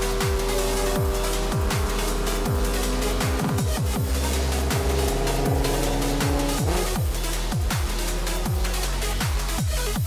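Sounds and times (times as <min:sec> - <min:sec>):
held synth notes: 0:00.0 - 0:09.6
deep bass hits: 0:00.0 - 0:09.7.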